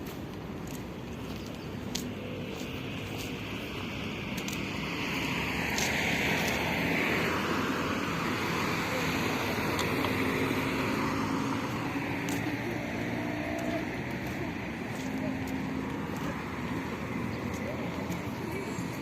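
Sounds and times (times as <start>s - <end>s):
vehicle road rumble and tyre hiss: 0.0s - 19.0s.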